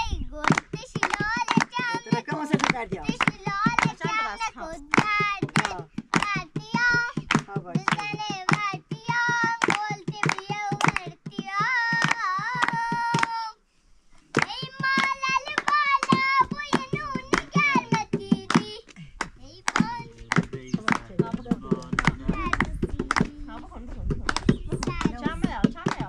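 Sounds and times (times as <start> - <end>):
child singing: 0.0 - 13.6, 14.3 - 26.0
rhythmic hand claps: 0.0 - 13.6, 14.3 - 26.0.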